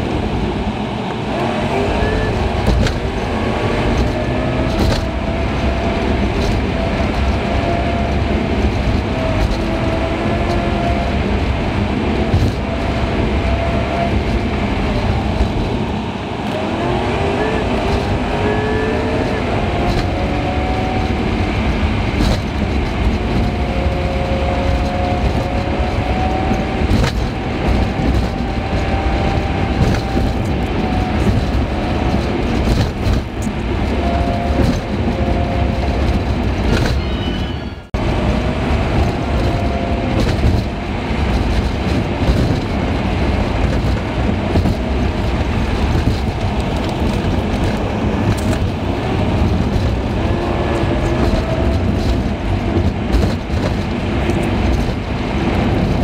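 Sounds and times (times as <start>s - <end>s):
car engine rumble: 0.0s - 56.0s
tyre and road noise: 0.0s - 56.0s.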